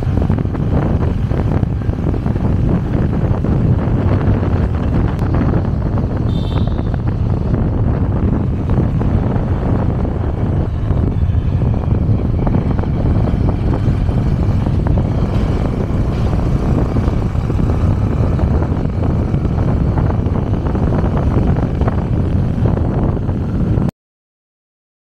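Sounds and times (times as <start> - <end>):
motorcycle engine: 0.0 - 23.9
road noise: 0.0 - 23.9
wind buffeting microphone: 0.0 - 23.9.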